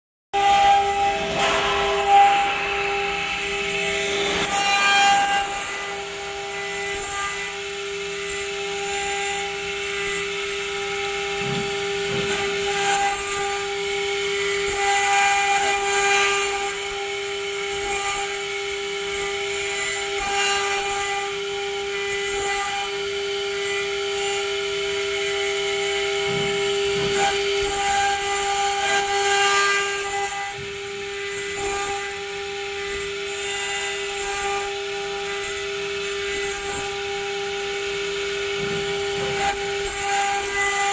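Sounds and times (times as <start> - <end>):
bit cutting stone hiss: 0.4 - 40.9
router spindle whining: 0.4 - 40.9.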